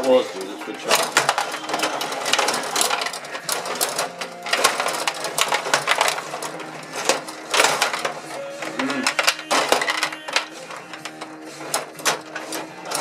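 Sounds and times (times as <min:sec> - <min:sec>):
metal rods sliding and twisting: 0:00.0 - 0:13.0
plastic players and puck clacking: 0:00.0 - 0:13.0.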